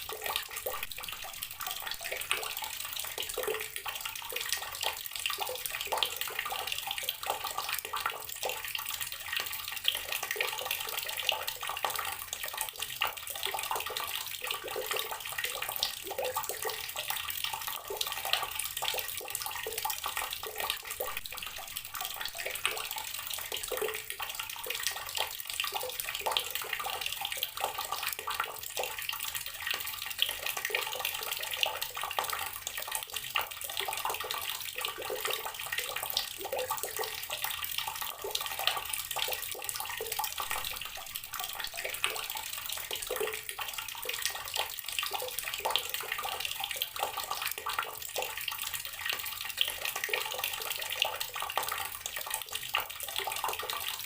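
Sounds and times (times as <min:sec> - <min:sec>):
water tap running and splashing: 0:00.0 - 0:54.0.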